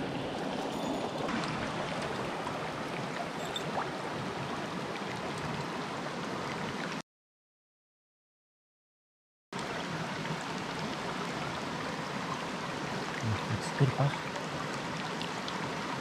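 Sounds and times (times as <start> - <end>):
stream rushing over rocks: 0.0 - 7.0, 9.6 - 16.0.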